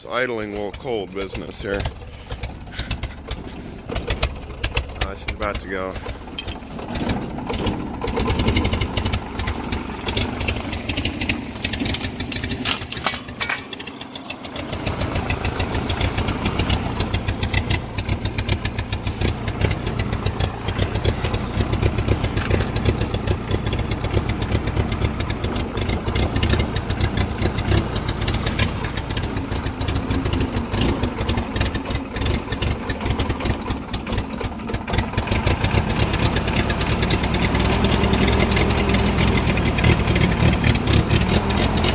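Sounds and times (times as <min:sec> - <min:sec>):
tractor engine idling roughly: 0:00.0 - 0:41.9.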